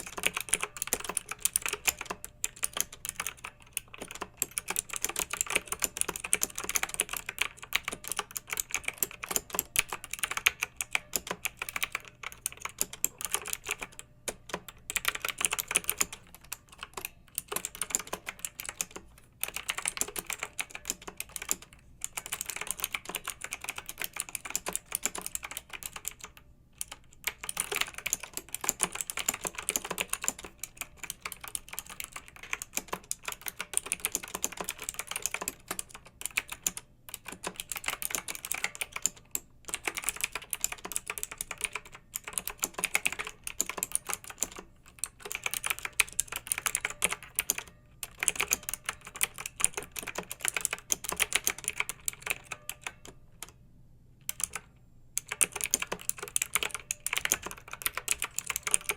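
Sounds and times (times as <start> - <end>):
mechanical keyboard typing: 0.0 - 53.6, 54.2 - 58.9.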